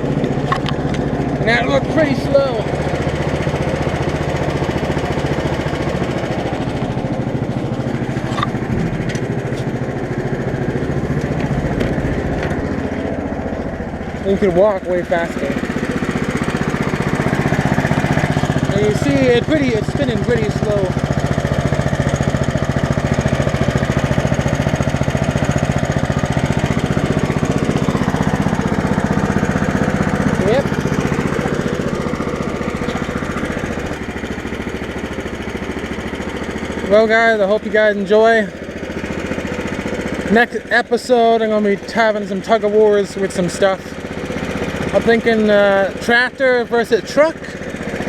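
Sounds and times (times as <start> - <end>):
small engine running steadily: 0.0 - 48.0.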